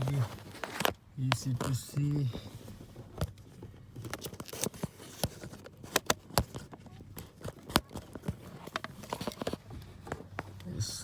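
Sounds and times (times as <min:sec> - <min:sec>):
handling noise clicks and knocks: 0:00.0 - 0:10.6.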